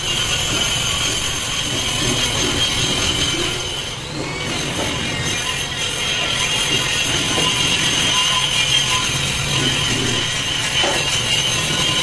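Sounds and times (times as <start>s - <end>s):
electric grinder whining: 0.0s - 12.0s
grinding stone screeching on steel: 0.0s - 12.0s.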